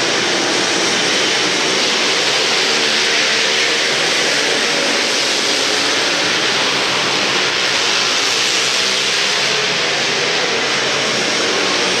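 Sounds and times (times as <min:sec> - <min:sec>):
racing quad engines revving: 0:00.0 - 0:12.0.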